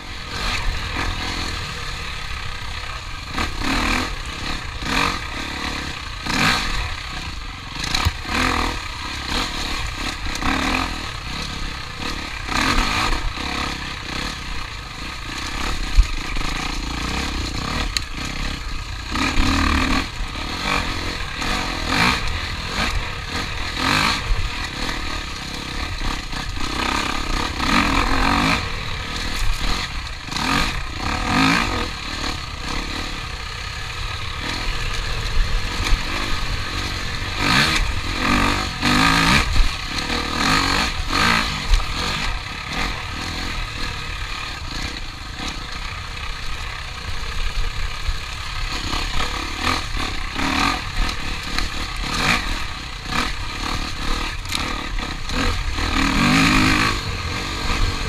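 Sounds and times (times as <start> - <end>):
clatter: 0.0 - 58.0.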